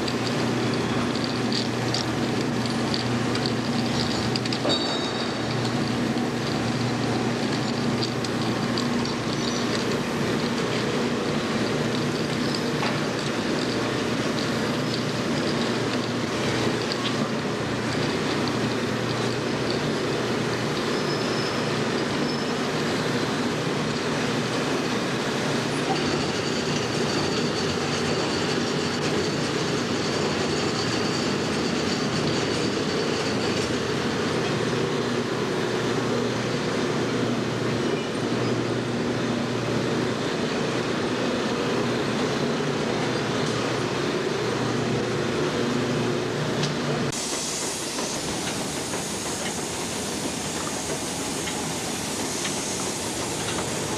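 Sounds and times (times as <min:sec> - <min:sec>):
bottling line machinery din: 0:00.0 - 0:53.9.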